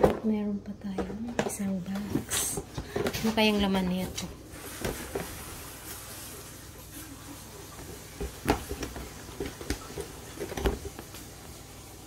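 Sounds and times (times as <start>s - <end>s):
cardboard packaging being handled: 1.9s - 11.7s.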